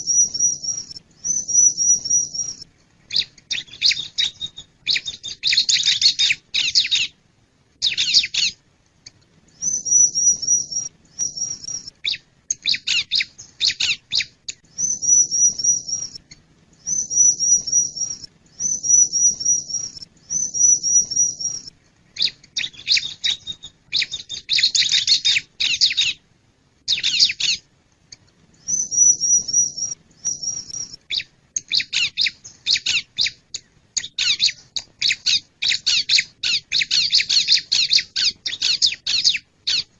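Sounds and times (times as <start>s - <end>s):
bird singing sharp chirps and trills: 0.0s - 7.2s, 7.8s - 8.6s, 9.6s - 26.2s, 26.9s - 39.9s.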